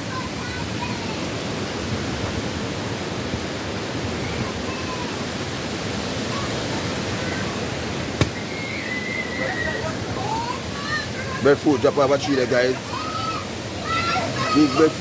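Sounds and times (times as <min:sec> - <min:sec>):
storm wind: 0:00.0 - 0:12.2
rain: 0:00.0 - 0:15.0.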